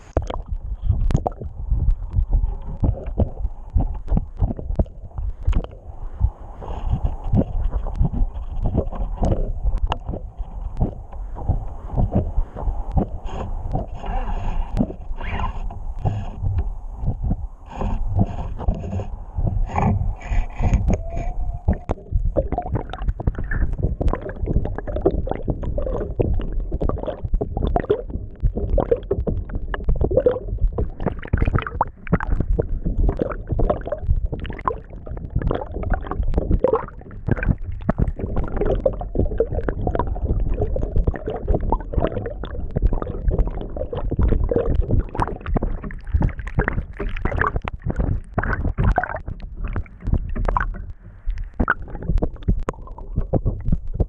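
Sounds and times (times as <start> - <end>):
low rumble: 0.0 - 54.0
water rushing and gurgling underwater: 0.0 - 54.0
water sloshing and crackling: 0.0 - 54.0.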